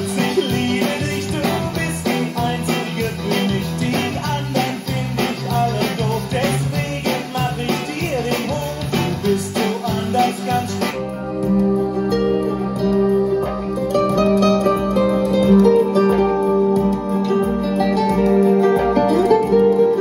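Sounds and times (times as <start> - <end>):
plucked string music: 0.0 - 20.0
song with singing and guitar: 0.0 - 20.0.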